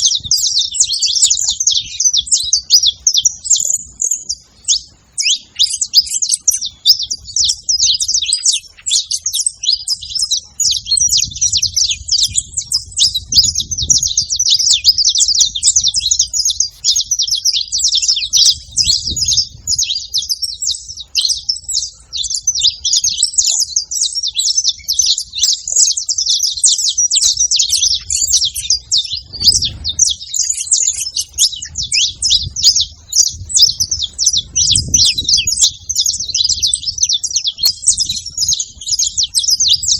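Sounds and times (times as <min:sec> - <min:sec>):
finches chirping and singing: 0:00.0 - 0:39.9.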